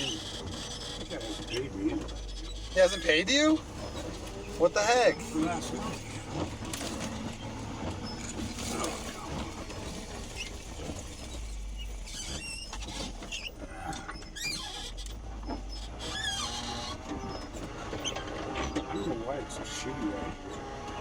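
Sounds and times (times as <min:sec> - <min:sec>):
short high squeaks: 0:00.0 - 0:19.8
vehicle engine rumbling: 0:00.0 - 0:21.0.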